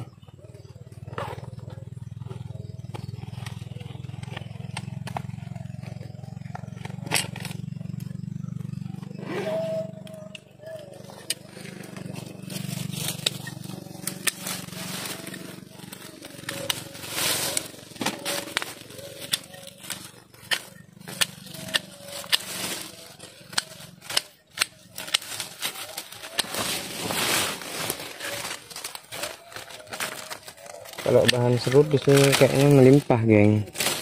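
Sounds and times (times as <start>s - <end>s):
rustling undergrowth: 0.0s - 34.0s
twigs cracking and snapping: 0.3s - 8.8s, 10.0s - 34.0s.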